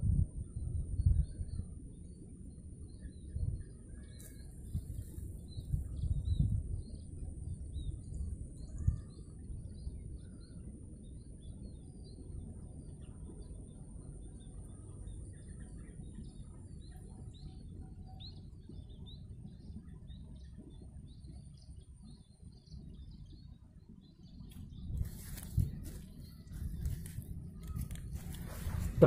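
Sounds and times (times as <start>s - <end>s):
wind rumble on microphone: 0.0s - 29.0s
small birds chirping: 0.4s - 29.0s.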